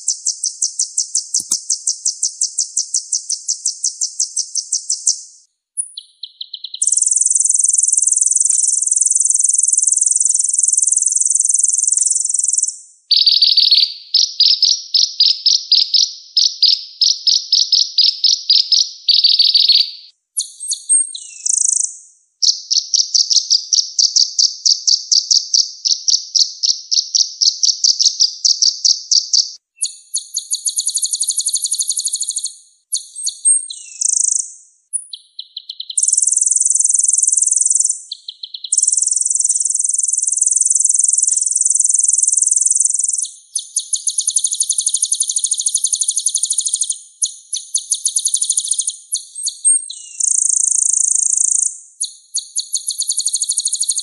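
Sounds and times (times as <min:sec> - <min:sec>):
sunbird trilled song: 0:00.0 - 0:54.0.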